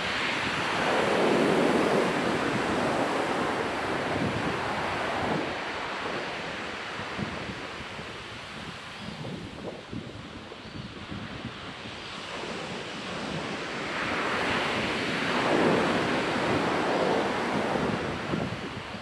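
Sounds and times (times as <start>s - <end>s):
ocean surf on a beach: 0.0s - 19.0s
wind buffeting microphone: 0.0s - 19.0s.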